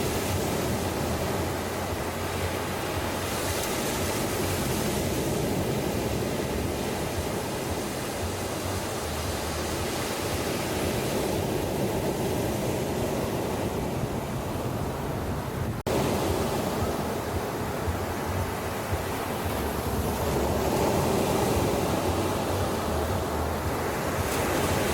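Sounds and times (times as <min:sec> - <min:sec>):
ocean surf on beach: 0:00.0 - 0:24.9.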